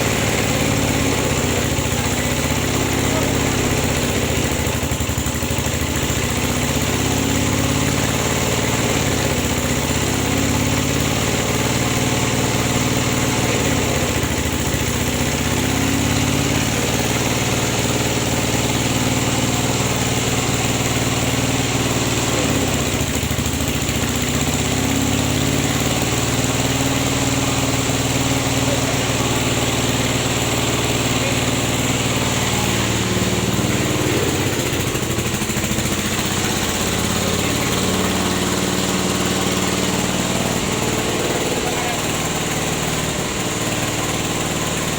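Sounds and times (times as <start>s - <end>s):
press engine humming: 0.0s - 44.9s.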